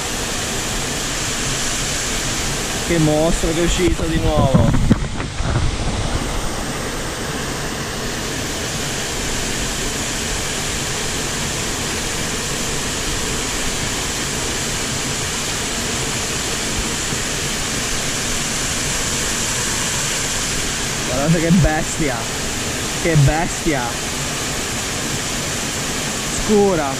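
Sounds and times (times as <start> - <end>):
water rushing over rocks: 1.4 - 26.9.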